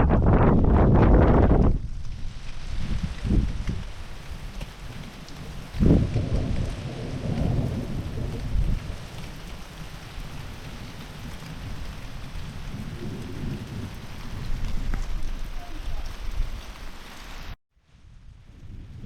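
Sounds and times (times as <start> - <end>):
thunder cracking and rumbling: 0.0 - 17.0, 17.9 - 19.0
heavy rain: 0.2 - 19.0.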